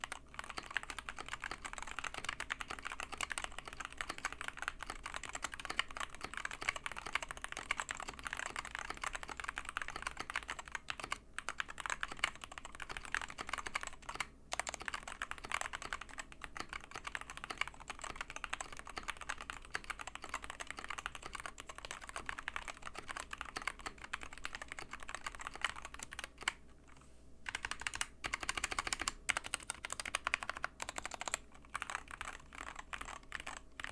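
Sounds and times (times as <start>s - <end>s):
mechanical keyboard typing: 0.0s - 26.6s, 27.5s - 33.9s.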